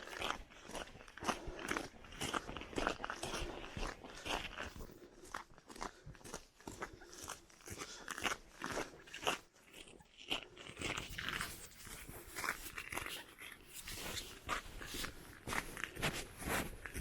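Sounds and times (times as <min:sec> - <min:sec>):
footsteps crunching on ground: 0:00.0 - 0:17.0.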